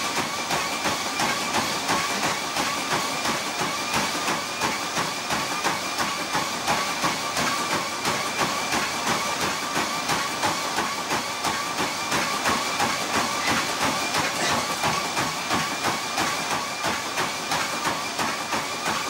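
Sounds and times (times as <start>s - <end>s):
shoes striking treadmill belt: 0.0s - 19.0s
treadmill motor whine: 0.0s - 19.0s.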